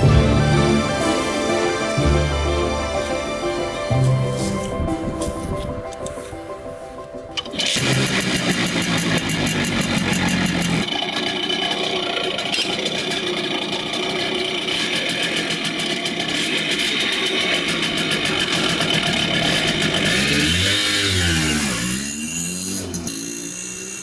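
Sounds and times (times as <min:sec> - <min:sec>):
two-stroke scooter engine running: 0:00.0 - 0:03.8, 0:07.4 - 0:24.0.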